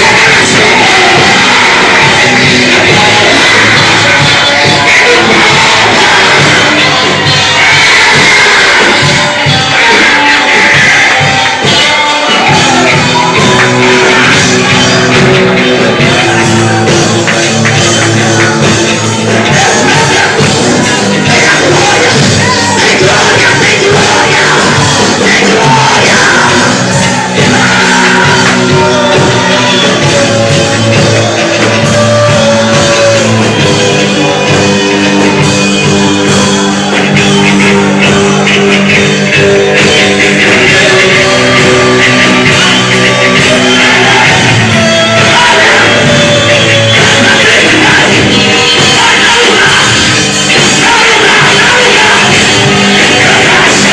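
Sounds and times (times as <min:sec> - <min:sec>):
loud band music: 0:00.0 - 0:53.9
voices singing and shouting: 0:00.0 - 0:53.9.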